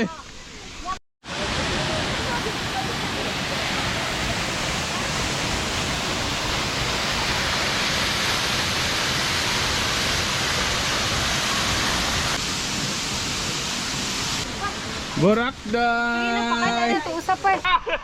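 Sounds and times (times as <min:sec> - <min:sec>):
waterfall rushing: 0:00.7 - 0:17.6.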